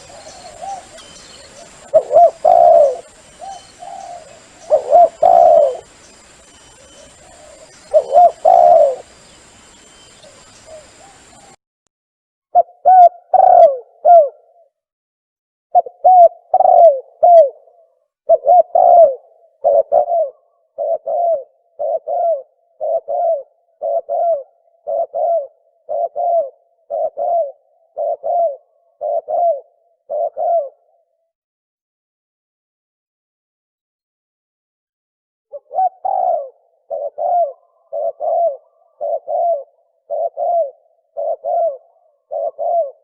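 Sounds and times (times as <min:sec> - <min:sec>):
dove cooing: 0:00.0 - 0:11.6, 0:12.6 - 0:14.6, 0:15.8 - 0:31.0, 0:35.5 - 0:43.0.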